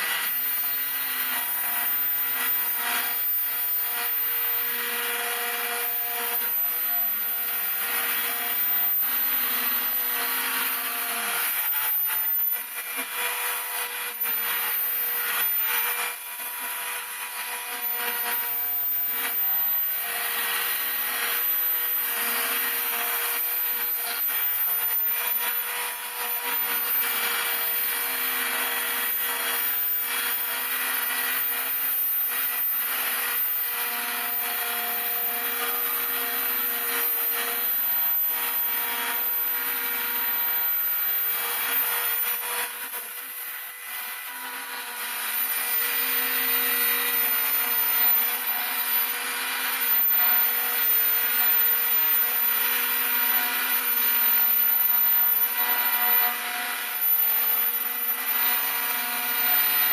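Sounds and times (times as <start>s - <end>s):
cutter rasping through wood: 0.0s - 59.9s
router spindle running: 0.0s - 59.9s.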